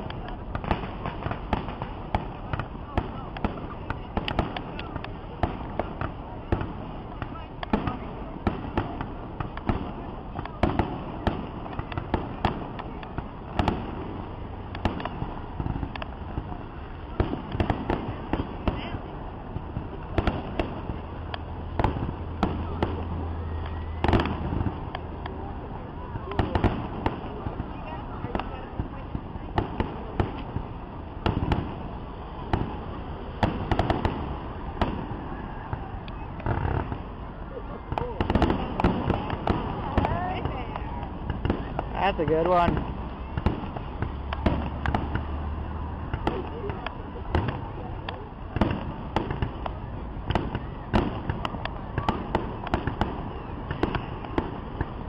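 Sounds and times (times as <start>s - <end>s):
distant fireworks bangs: 0.0s - 55.0s
steady background noise: 0.0s - 55.0s.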